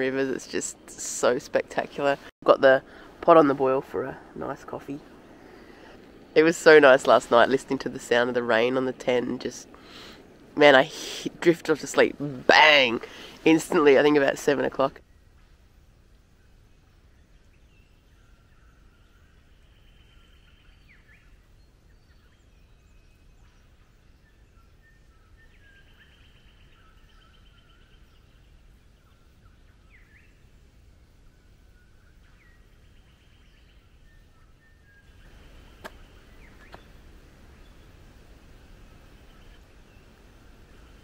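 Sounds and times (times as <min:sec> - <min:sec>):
birds calling: 0:00.0 - 0:15.0, 0:17.5 - 0:41.0.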